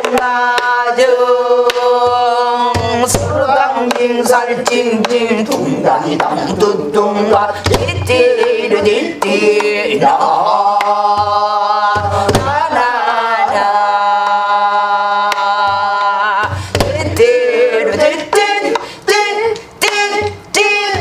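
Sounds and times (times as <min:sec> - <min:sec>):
woman singing wordless melody: 0:00.0 - 0:21.0.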